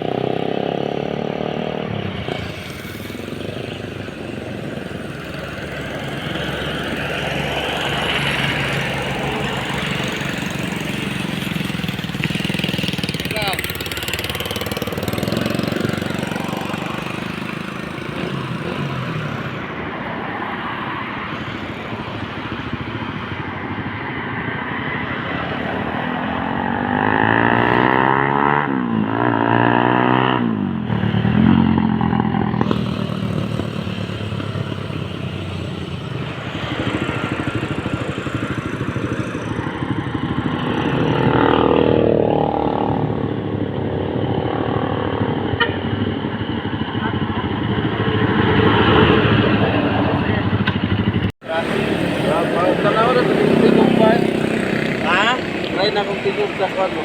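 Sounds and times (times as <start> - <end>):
motorcycle engine running: 0.0 - 24.0, 26.4 - 57.0.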